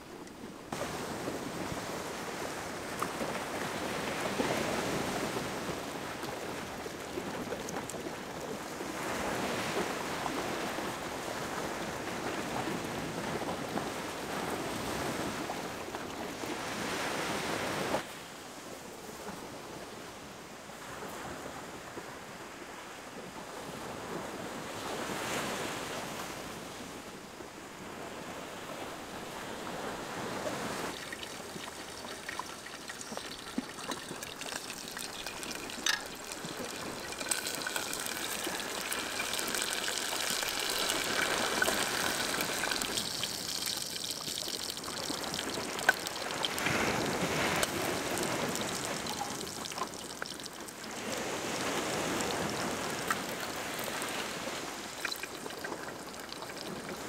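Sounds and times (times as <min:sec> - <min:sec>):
sea surf washing: 0:00.0 - 0:18.0, 0:27.7 - 0:57.0.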